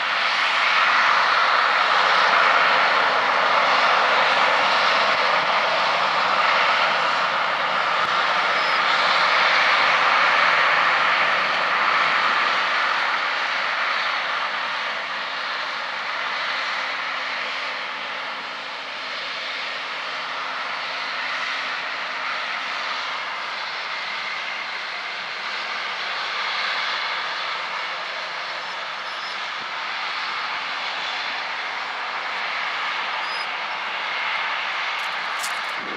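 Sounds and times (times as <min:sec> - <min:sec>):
faint engine hum: 0:00.0 - 0:35.9
harvest machinery whirring drone: 0:00.0 - 0:35.9.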